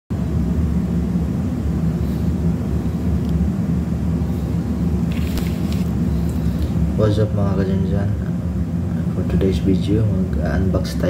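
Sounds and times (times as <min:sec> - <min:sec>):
low rumbling drone: 0:00.1 - 0:11.0.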